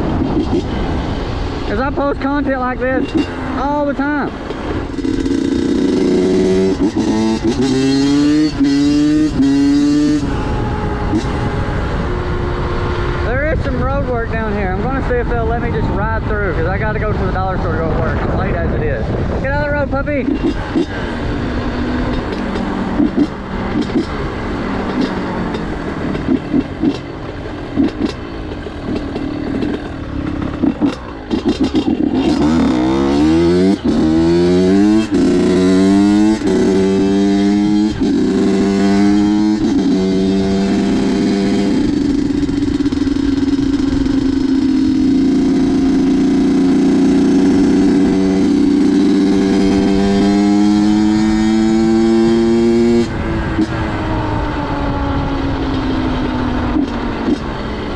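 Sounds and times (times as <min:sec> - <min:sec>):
dirt bike engine revving: 0:00.0 - 0:13.9, 0:19.6 - 0:54.2.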